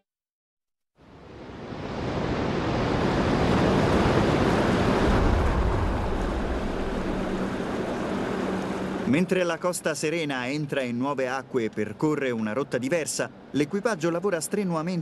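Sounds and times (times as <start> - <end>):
sea waves: 1.0 - 15.0
wind: 1.0 - 15.0.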